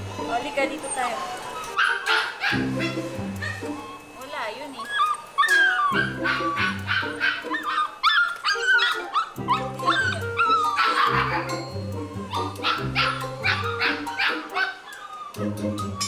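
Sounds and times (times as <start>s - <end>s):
background music: 0.0s - 4.2s, 5.8s - 16.0s
puppy whining and yelping: 0.1s - 16.0s.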